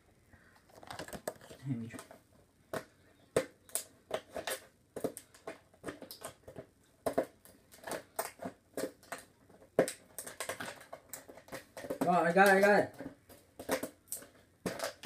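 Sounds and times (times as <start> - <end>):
packaging crackling and rustling: 0.6 - 2.2, 3.6 - 15.0.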